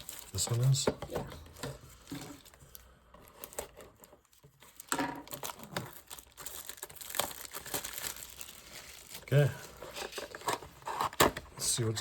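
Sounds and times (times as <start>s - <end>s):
packaging crinkling and tearing: 0.0s - 0.8s, 2.0s - 11.4s.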